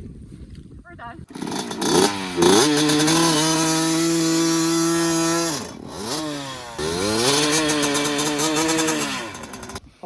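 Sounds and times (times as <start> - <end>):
small engine revving: 1.3 - 9.8.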